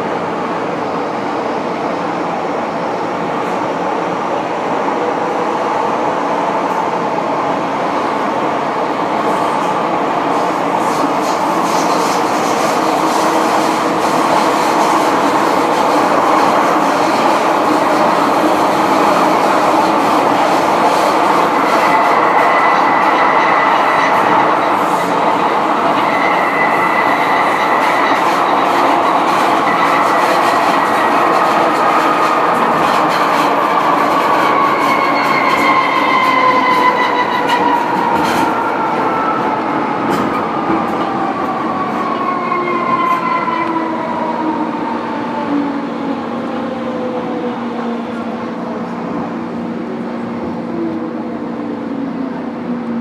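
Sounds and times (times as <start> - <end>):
train running noise: 0.0 - 53.0.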